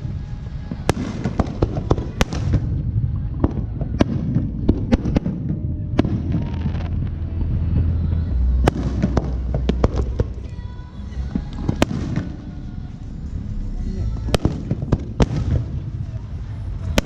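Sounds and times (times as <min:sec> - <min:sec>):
fireworks bangs: 0:00.0 - 0:10.6, 0:11.2 - 0:12.7, 0:14.2 - 0:17.0
steady low rumble: 0:00.0 - 0:17.0.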